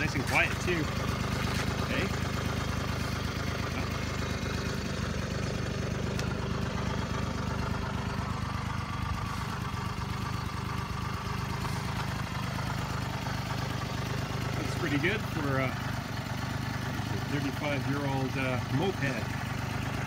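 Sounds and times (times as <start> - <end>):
moped engine idling: 0.0 - 20.0.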